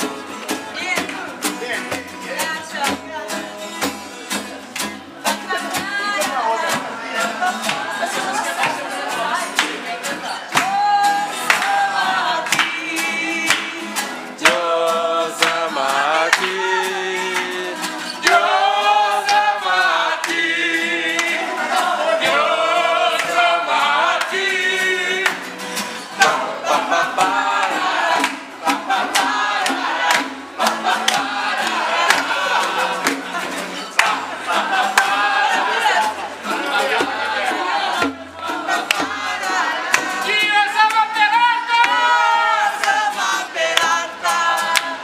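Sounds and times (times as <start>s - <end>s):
group of people singing: 0.0s - 45.0s
strummed acoustic guitars: 0.0s - 45.0s.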